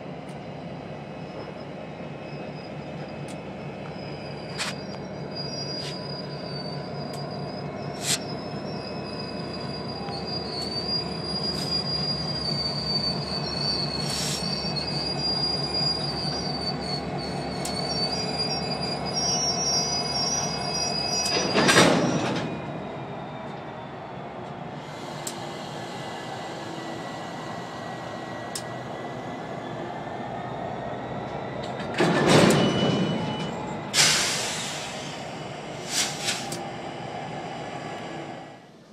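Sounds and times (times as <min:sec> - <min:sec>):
train wheels squealing on rails: 0:00.0 - 0:38.9.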